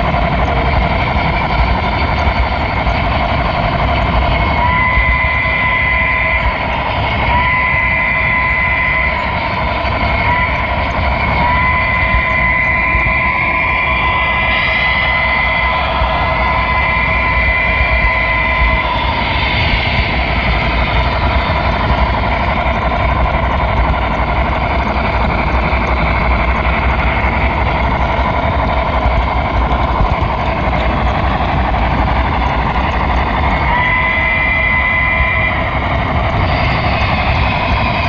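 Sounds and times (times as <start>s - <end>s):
thin whine: 0.0s - 38.0s.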